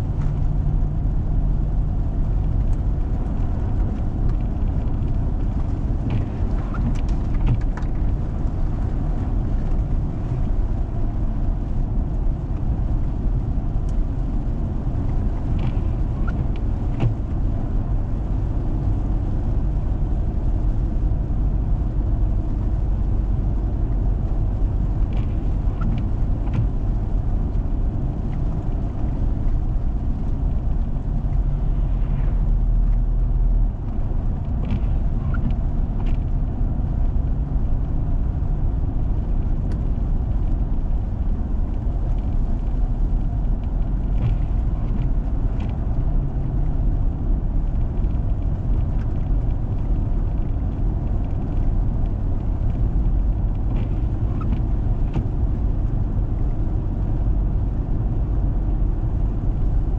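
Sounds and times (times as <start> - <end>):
vehicle driving on snow: 0.0 - 59.9.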